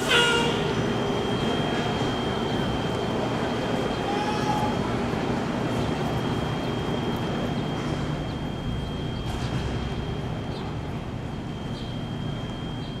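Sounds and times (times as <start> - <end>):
idling engines and traffic rumble: 0.0 - 13.0.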